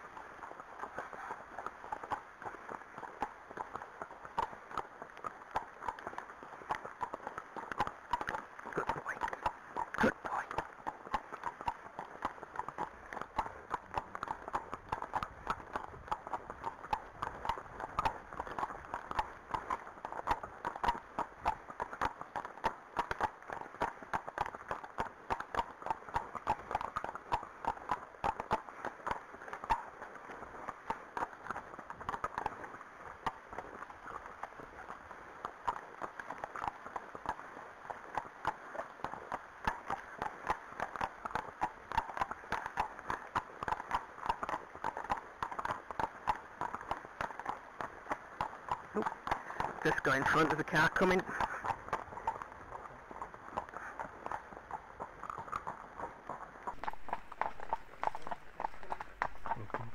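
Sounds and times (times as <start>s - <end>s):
hooves clip-clopping on tarmac: 0.0s - 59.9s.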